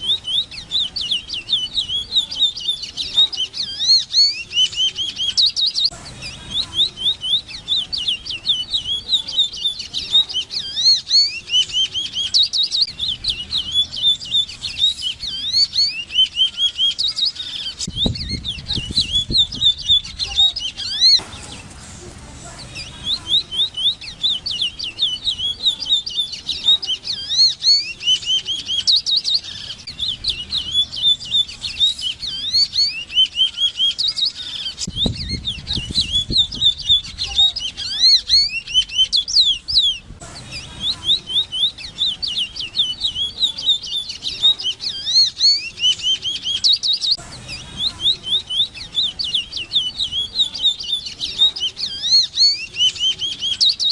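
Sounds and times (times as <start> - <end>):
bird singing slurred whistles: 0.0 - 21.7, 22.8 - 53.9.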